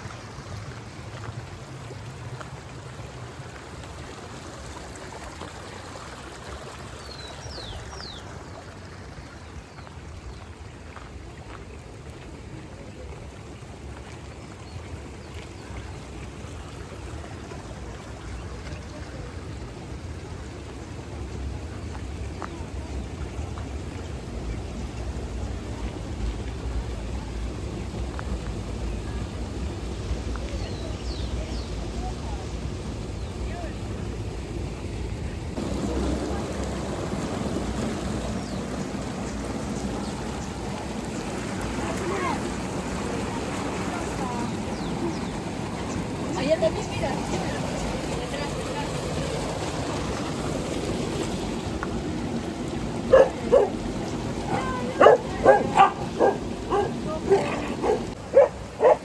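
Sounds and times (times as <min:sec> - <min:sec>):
rushing water of stream: 0:00.0 - 0:59.0.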